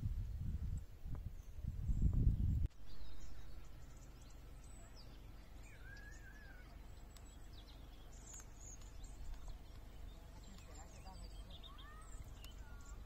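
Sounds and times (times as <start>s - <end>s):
faint bird chirps and calls: 1.3s - 13.0s.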